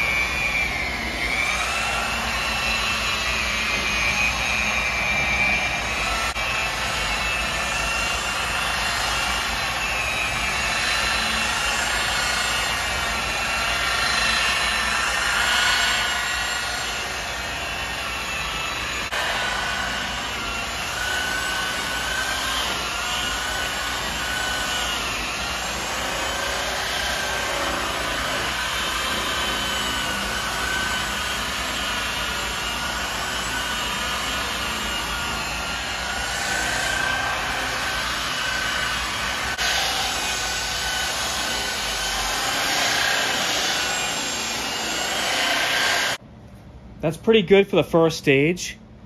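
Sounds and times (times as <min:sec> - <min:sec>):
rotary buffer motor whine: 0:00.0 - 0:46.2.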